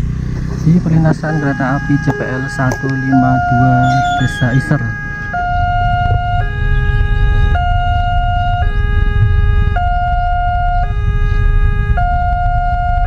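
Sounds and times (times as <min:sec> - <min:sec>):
low rumble: 0:00.0 - 0:13.0
level crossing warning siren: 0:00.6 - 0:13.0.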